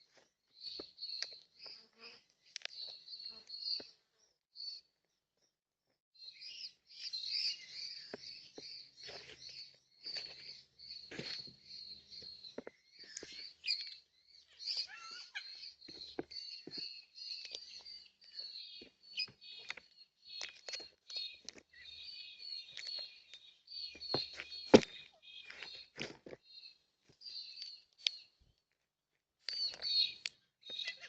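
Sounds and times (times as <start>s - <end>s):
birds chirping and twittering: 0.0s - 5.5s, 6.2s - 28.8s, 29.4s - 31.0s.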